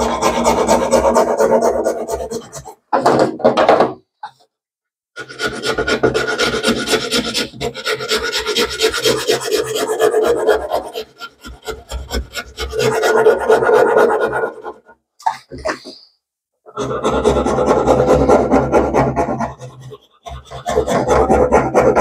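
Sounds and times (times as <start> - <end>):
needle file rasping: 0.0 - 2.8, 5.2 - 14.8, 16.7 - 22.0.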